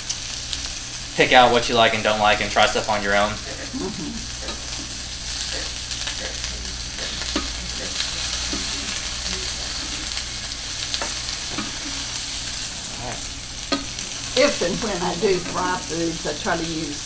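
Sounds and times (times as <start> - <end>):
chicken sizzling in a skillet: 0.0 - 17.0.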